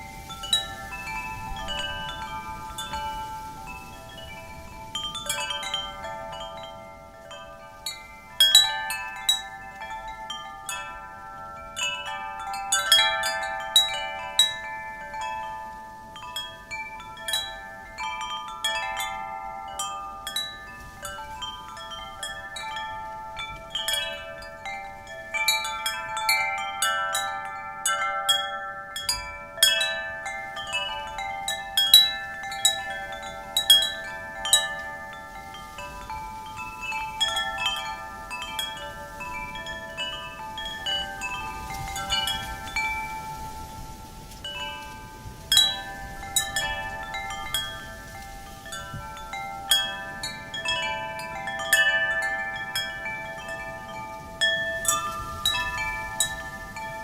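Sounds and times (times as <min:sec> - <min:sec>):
faint wind hiss: 0:00.0 - 0:57.0
wind chimes ringing: 0:00.0 - 0:57.0.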